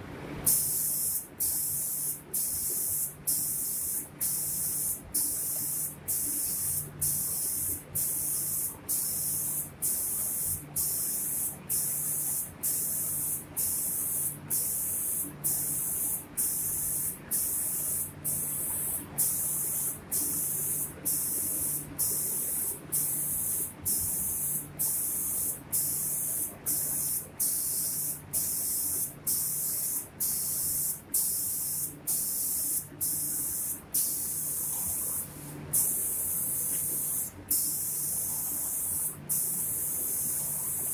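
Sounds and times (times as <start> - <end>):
spray gun hissing: 0.5 - 40.9.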